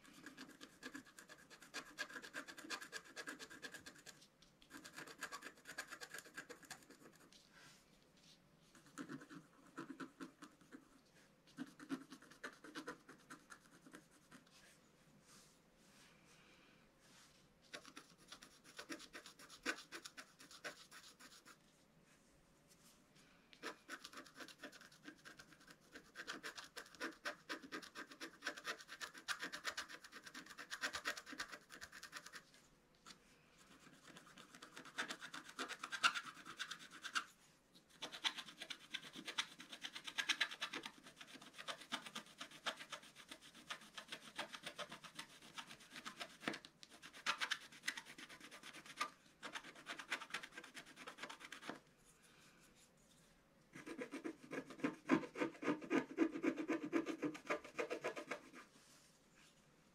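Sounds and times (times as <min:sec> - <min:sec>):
stylus scratching paper: 0:00.0 - 0:07.4, 0:08.7 - 0:14.6, 0:17.7 - 0:21.6, 0:23.6 - 0:32.6, 0:33.6 - 0:51.8, 0:53.7 - 0:58.7.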